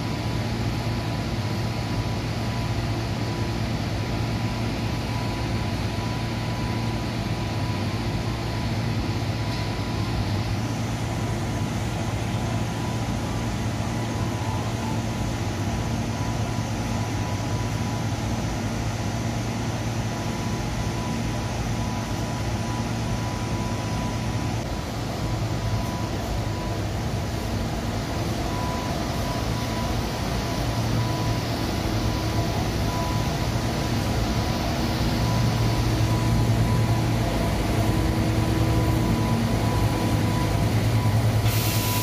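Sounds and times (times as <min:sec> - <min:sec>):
machinery humming: 0:00.0 - 0:42.0
thin steady tone: 0:05.0 - 0:42.0.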